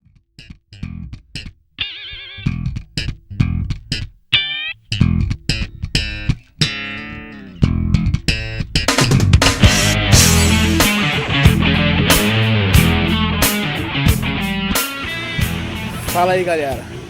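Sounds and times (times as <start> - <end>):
electric guitar and bass rock music: 0.4 - 17.0.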